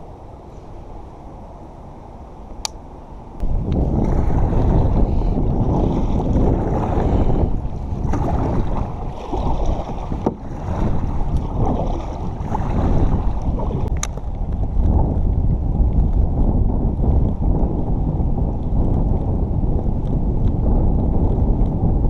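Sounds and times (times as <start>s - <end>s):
wind buffeting microphone: 2.6s - 22.0s
water lapping around kayak: 3.2s - 22.0s.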